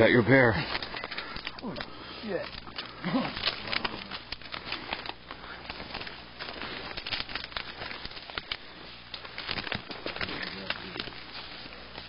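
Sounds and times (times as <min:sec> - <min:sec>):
twigs and leaves crackling: 0:00.0 - 0:12.0.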